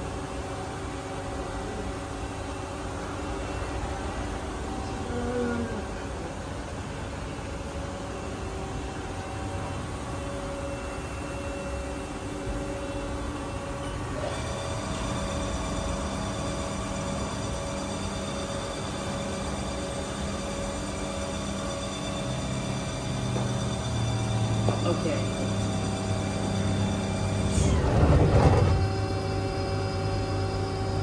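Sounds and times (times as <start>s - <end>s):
lathe machine hum with whining tones: 0.0s - 31.0s.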